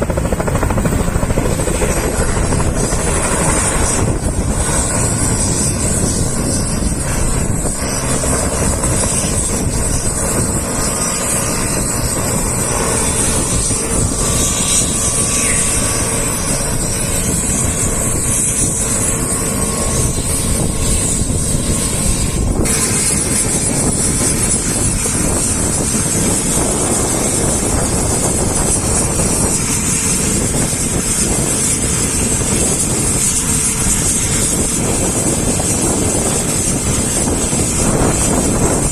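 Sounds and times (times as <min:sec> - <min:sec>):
helicopter rotor and engine rumble: 0:00.0 - 0:38.9
high turbine whine: 0:00.0 - 0:38.9
wind buffeting microphone: 0:00.0 - 0:38.9.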